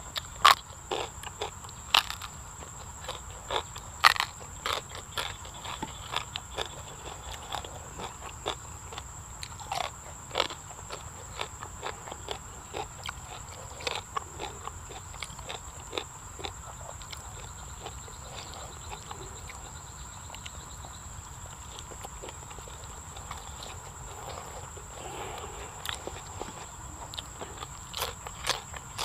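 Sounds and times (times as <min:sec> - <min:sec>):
crunching raw vegetables: 0:00.0 - 0:29.0.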